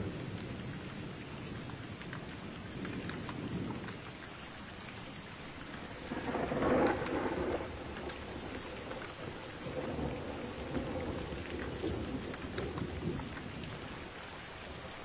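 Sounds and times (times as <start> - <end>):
low thunder rumbles: 0.0 - 4.2, 5.6 - 14.1
raindrop ticks: 0.0 - 15.0
steady rain: 0.0 - 15.0.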